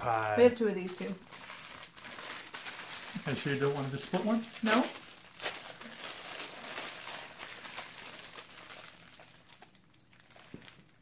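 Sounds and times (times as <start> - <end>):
plastic wrappers crinkling: 0.6 - 11.0.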